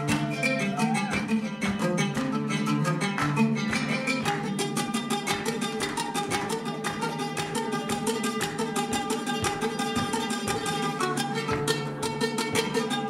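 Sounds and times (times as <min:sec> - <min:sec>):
oud played fast: 0:00.0 - 0:13.0.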